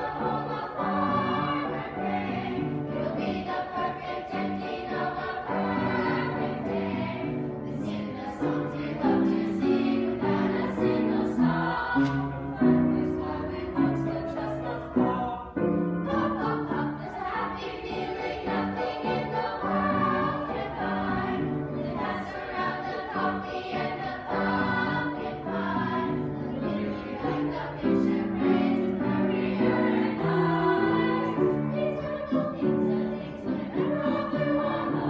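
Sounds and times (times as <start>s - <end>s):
children's choir singing: 0.0s - 35.0s.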